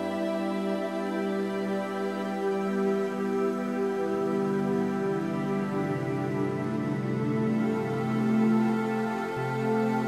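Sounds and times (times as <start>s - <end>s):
droning meditation music: 0.0s - 10.0s.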